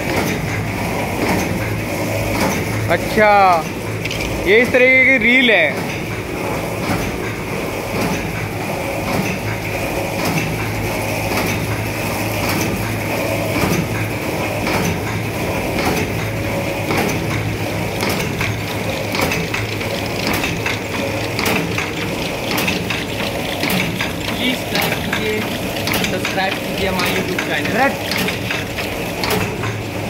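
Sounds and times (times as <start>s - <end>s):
machine clacks: 0.0s - 30.0s
punching machine hum and whine: 0.0s - 30.0s.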